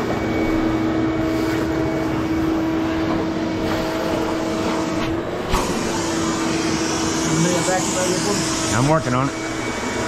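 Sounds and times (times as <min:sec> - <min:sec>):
shop vacuum droning: 0:00.0 - 0:10.0
vacuum hose sucking debris: 0:00.4 - 0:10.0.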